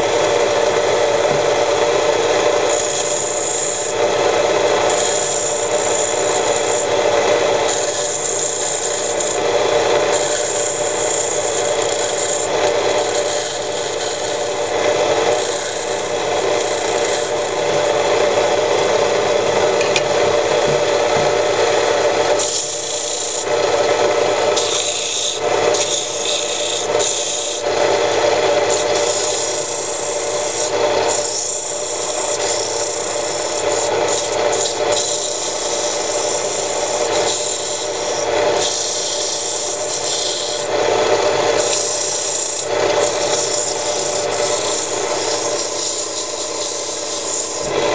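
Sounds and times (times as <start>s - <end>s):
tool rasping on spinning wood: 0.0s - 47.9s
wood lathe running: 0.0s - 47.9s.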